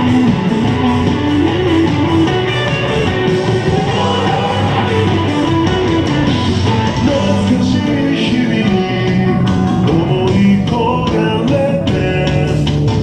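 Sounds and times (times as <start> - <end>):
loud rock song: 0.0 - 13.0.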